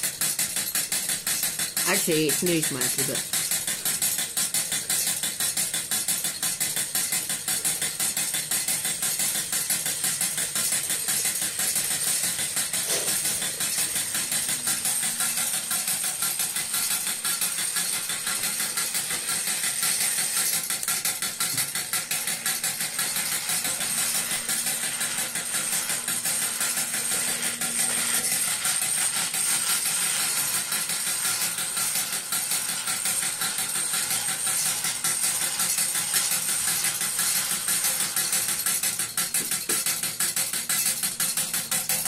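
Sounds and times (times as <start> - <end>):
toy steam engine chuffing: 0.0 - 42.0.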